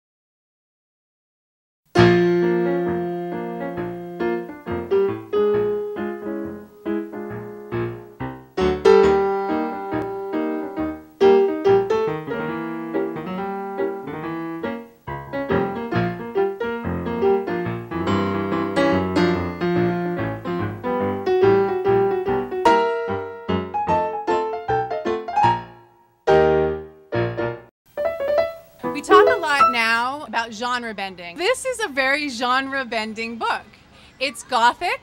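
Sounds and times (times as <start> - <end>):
lively piano tune: 2.0 - 30.0.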